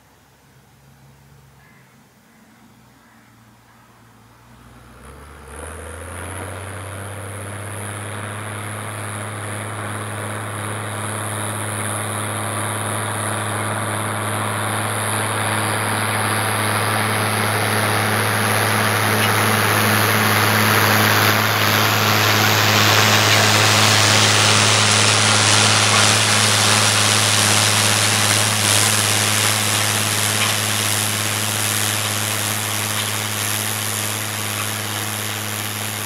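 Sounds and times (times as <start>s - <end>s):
tractor diesel engine under load: 4.0s - 36.0s.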